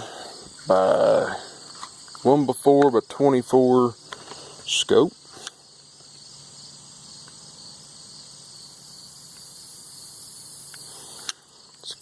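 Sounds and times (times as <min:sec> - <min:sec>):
high-pitched insect trilling: 0:00.0 - 0:12.0.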